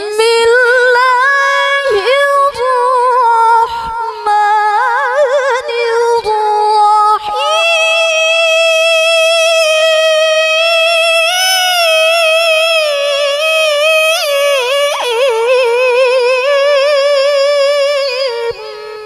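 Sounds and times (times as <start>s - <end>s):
woman chanting through a microphone: 0.0s - 19.0s.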